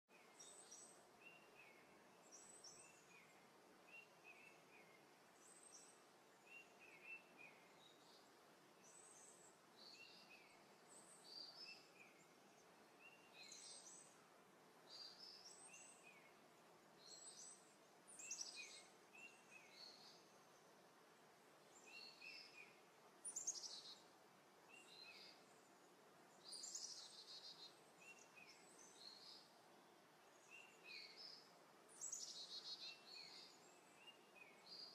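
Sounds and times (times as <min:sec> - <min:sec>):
low outdoor hiss: 0:00.1 - 0:34.9
small birds chirping: 0:00.1 - 0:34.9.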